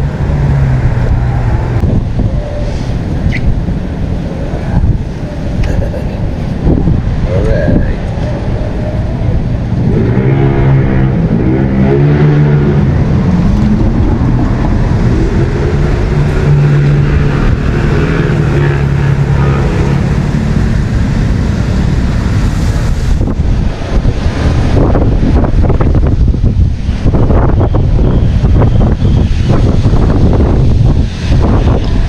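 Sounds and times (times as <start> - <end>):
engine droning: 0.0 - 32.0
wind buffeting microphone: 0.0 - 32.0.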